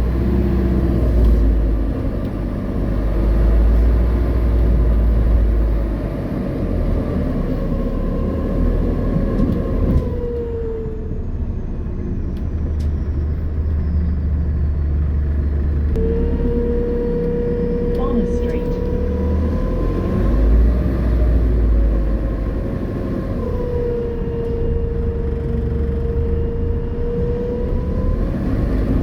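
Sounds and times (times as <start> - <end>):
bus drive rumble: 0.0 - 29.0.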